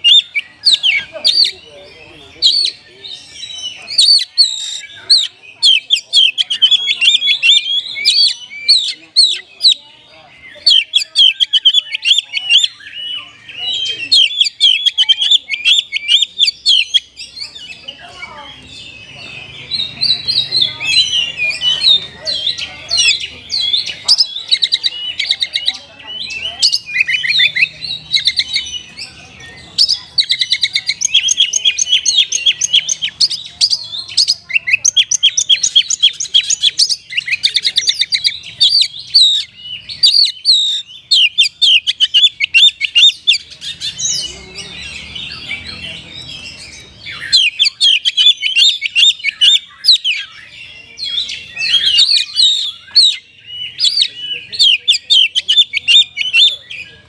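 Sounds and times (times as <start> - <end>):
magpie-robin singing: 0.0 - 57.0.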